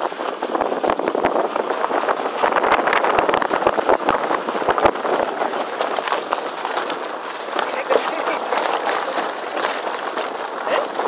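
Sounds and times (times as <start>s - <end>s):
crunching on gravel: 1.4s - 11.0s.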